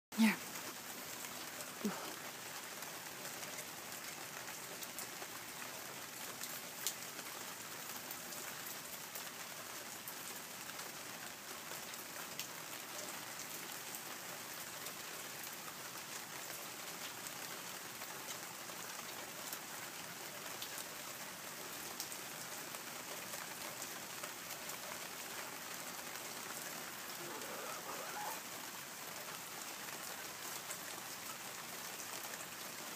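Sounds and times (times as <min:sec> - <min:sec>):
light rain hissing: 0:00.2 - 0:32.9.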